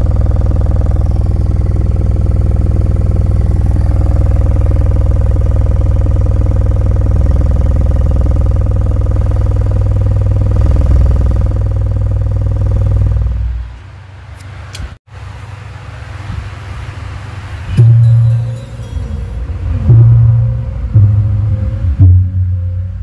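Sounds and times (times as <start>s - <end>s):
heavy subwoofer bass: 0.0s - 13.7s, 17.8s - 23.0s.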